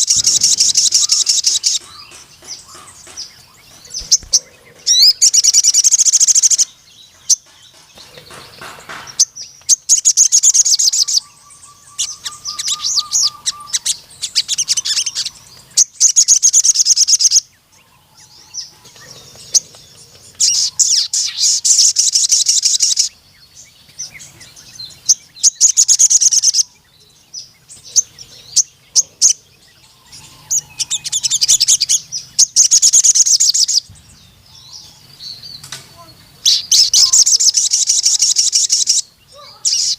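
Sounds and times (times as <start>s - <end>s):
bird twittering chirps and trills: 0.0s - 39.9s.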